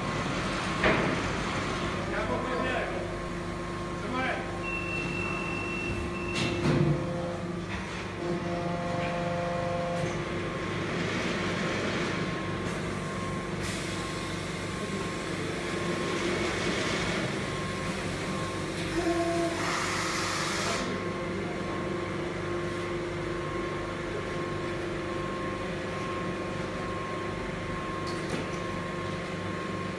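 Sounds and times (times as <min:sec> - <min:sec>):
machinery humming: 0:00.0 - 0:29.9.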